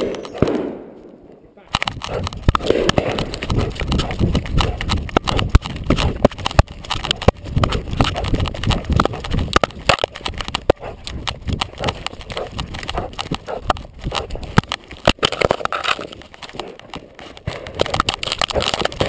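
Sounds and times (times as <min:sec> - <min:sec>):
camera rubbing against fur: 0:01.8 - 0:19.0.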